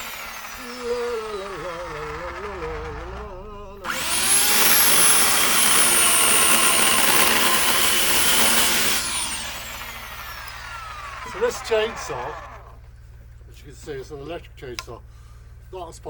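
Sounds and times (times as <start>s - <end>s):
electric chainsaw motor whining: 0.0s - 12.9s.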